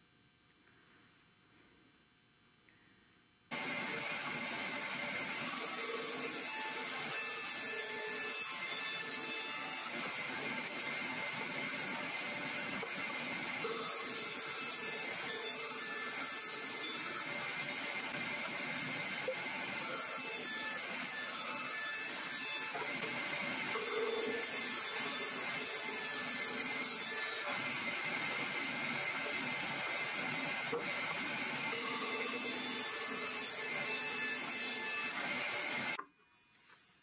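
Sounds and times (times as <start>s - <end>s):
bandsaw cutting wood: 3.5s - 36.9s.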